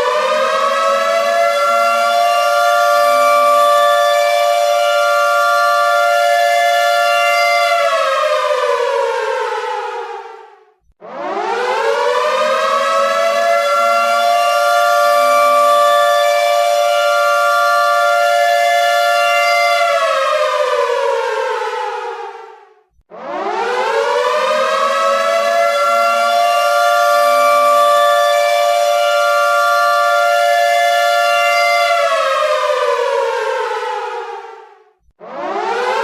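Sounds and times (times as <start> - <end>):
air-raid siren wailing: 0.0 - 22.5, 23.1 - 36.0.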